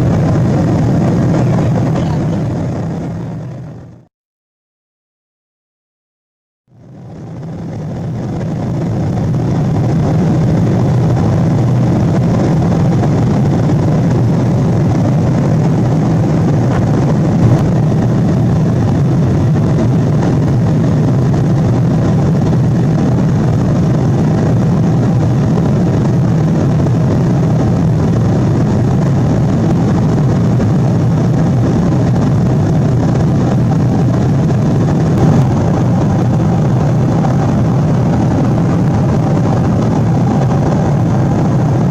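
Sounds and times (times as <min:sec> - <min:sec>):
jet engines and airflow in cabin: 0:00.0 - 0:04.1, 0:06.7 - 0:41.9.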